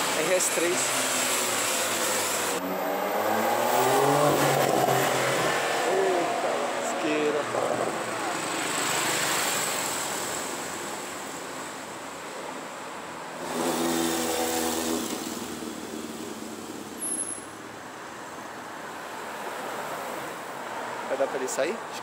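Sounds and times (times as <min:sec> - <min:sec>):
car engine: 0:00.0 - 0:18.8
street traffic road noise: 0:00.0 - 0:22.0.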